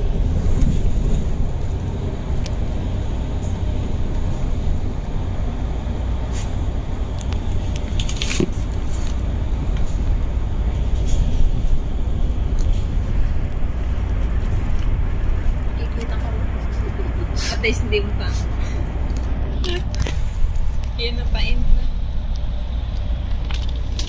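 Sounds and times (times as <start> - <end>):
bus engine low rumble: 0.0 - 24.0.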